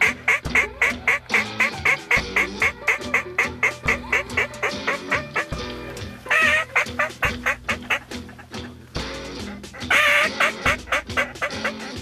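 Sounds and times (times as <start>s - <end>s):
duck quacks: 0.0s - 12.0s.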